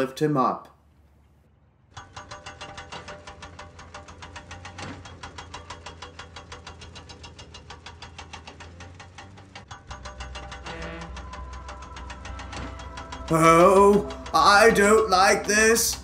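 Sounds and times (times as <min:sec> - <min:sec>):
low hum: 0:00.8 - 0:16.0
crane winch clicking: 0:01.9 - 0:16.0.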